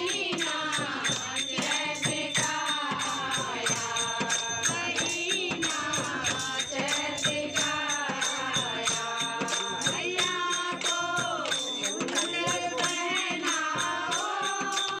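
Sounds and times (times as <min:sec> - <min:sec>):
person singing devotional song: 0:00.0 - 0:15.0
steady percussion beat: 0:00.0 - 0:15.0.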